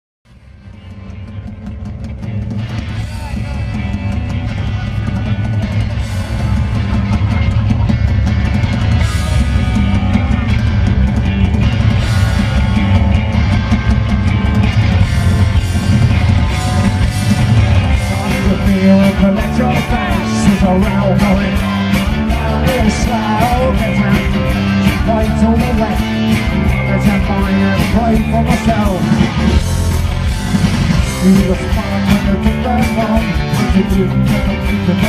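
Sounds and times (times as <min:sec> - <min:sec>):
bass guitar: 0:00.3 - 0:35.0
drum kit: 0:00.3 - 0:35.0
electric guitar: 0:00.3 - 0:35.0.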